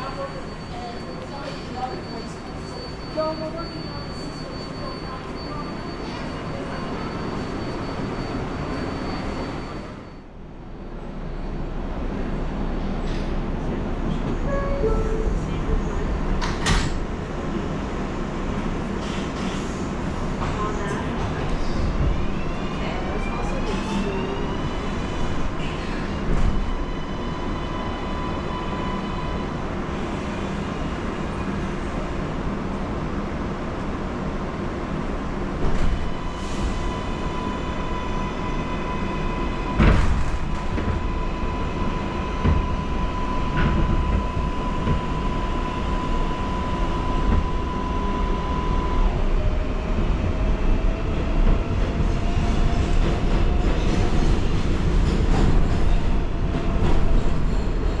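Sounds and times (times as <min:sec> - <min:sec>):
rising train whine: 0:00.0 - 0:58.0
subway train rumble: 0:00.0 - 0:58.0.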